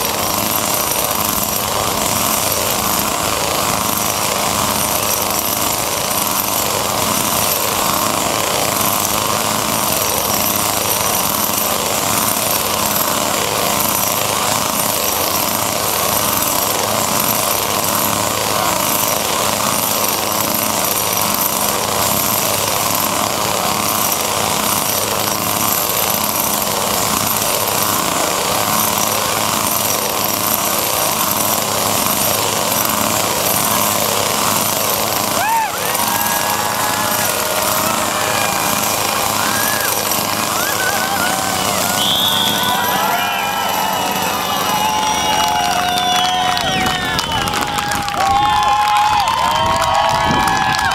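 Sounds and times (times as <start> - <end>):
chainsaw engines running: 0.0 - 50.9.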